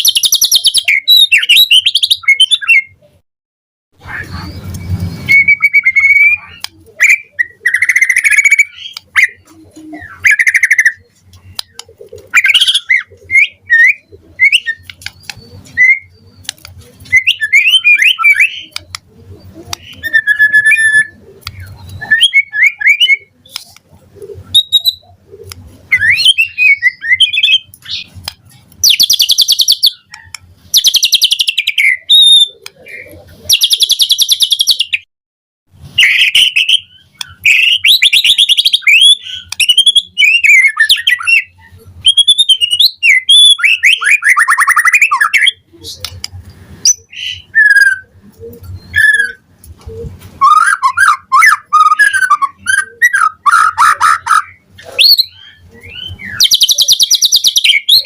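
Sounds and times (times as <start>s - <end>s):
shama singing whistles and trills: 0.0s - 3.1s, 4.0s - 23.6s, 24.4s - 25.2s, 25.9s - 28.1s, 28.8s - 35.1s, 35.8s - 46.2s, 46.8s - 49.5s, 50.4s - 58.0s.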